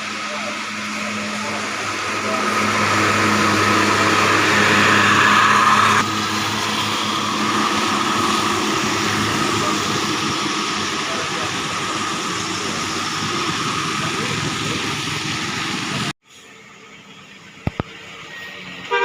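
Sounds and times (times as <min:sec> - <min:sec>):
heavy vehicles passing: 0:00.0 - 0:16.1.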